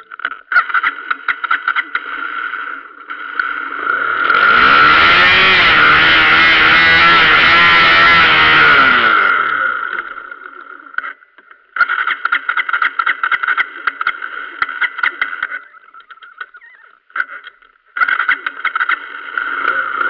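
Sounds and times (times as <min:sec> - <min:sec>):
motorcycle starter cranking: 0:00.0 - 0:20.0.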